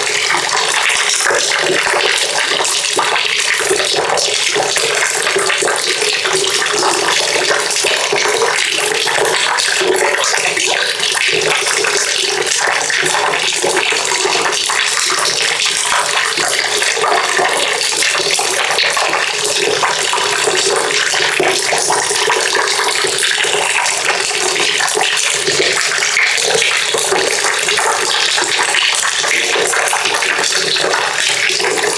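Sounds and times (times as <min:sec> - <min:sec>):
water pouring into a bucket: 0:00.0 - 0:31.9.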